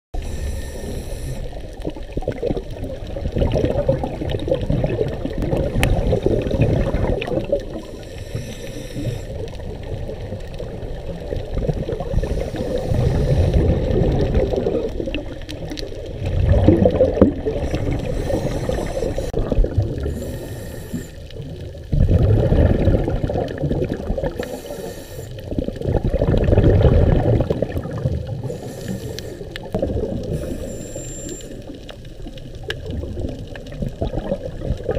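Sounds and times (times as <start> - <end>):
exhaled bubbles rumbling underwater: 0.2 - 34.9.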